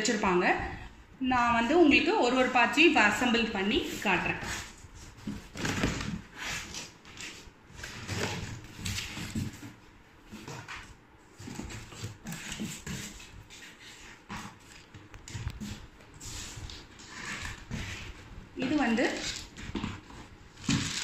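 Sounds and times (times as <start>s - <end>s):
packaging rubbing and rustling: 3.7s - 21.0s.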